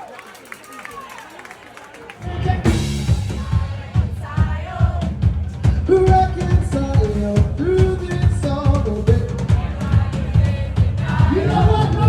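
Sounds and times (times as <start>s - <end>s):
band playing a song: 2.2s - 12.0s
drum kit beat: 2.3s - 12.0s.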